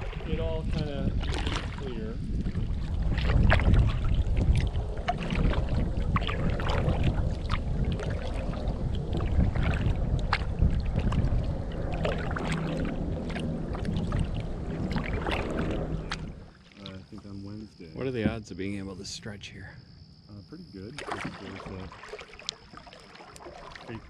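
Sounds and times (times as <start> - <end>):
water splashing and dripping: 0.0 - 17.6, 20.8 - 24.0
wind buffeting microphone: 0.0 - 19.4.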